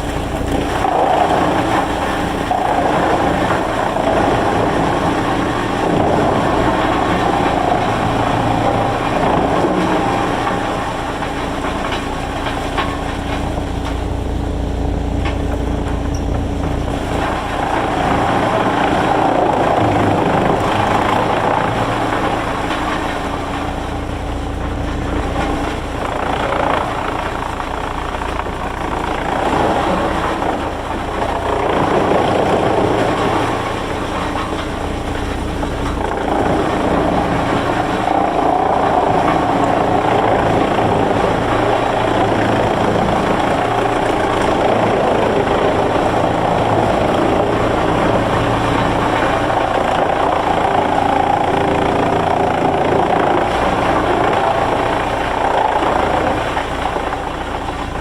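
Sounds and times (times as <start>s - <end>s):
heavy machinery rumbling: 0.0s - 58.0s.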